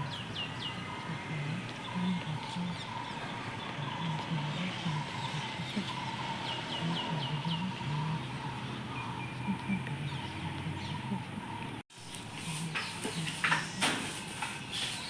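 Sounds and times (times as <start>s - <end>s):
outdoor background sound: 0.0s - 15.0s.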